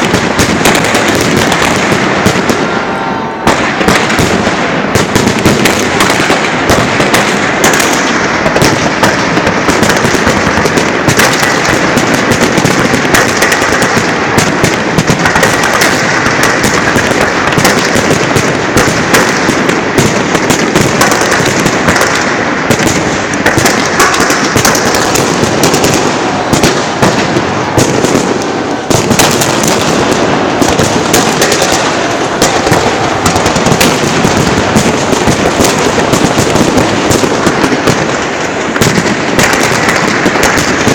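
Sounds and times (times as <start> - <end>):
fireworks launching and bursting: 0.0 - 40.9.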